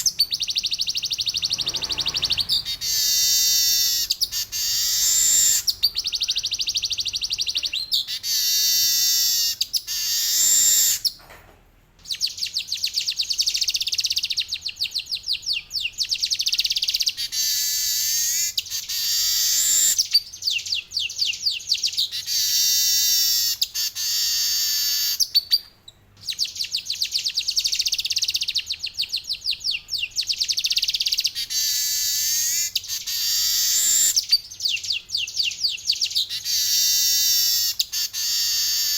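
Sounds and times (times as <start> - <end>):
weaver bird singing trills: 0.0 - 11.1, 12.0 - 38.9.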